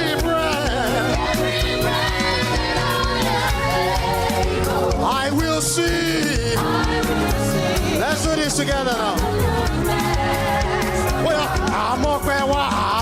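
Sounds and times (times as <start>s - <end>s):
gospel band playing: 0.0s - 13.0s
singer and congregation singing: 0.0s - 13.0s
steady drum beat: 0.0s - 13.0s.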